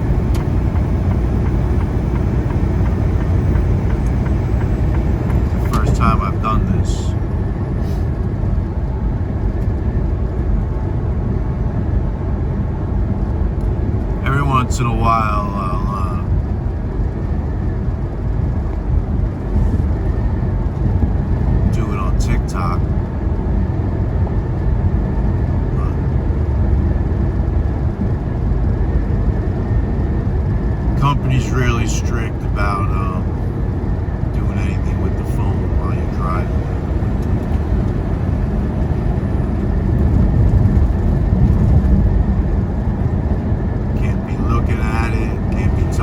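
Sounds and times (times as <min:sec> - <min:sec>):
truck engine and road rumble: 0:00.0 - 0:46.0.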